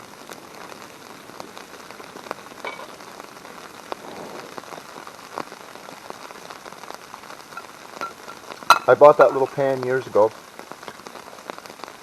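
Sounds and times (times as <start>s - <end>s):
meat sizzling in a pan: 0.0s - 12.0s
sharp popping of frying fat: 0.0s - 12.0s.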